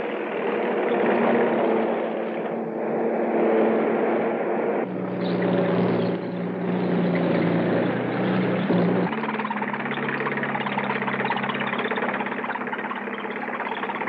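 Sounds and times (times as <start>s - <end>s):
heavy tank engine droning: 0.0s - 14.0s.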